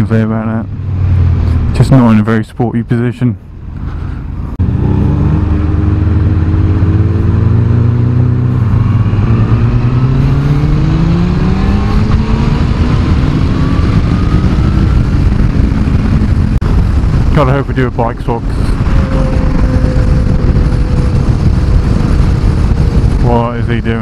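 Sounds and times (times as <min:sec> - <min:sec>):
wind and road rush: 0:00.0 - 0:24.0
motorcycle engine accelerating: 0:04.6 - 0:24.0.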